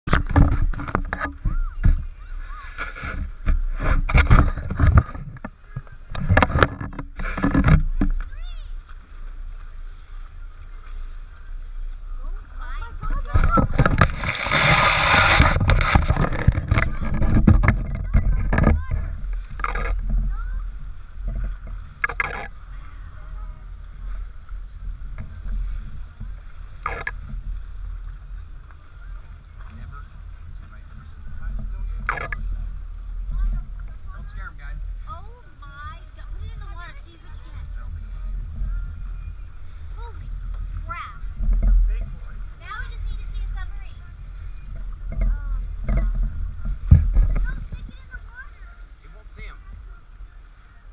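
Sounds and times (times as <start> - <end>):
hull slapping waves: 0.0 - 50.9
motorboat engine rumble: 0.0 - 50.9
wind on microphone: 0.0 - 50.9
rushing water: 0.1 - 50.9.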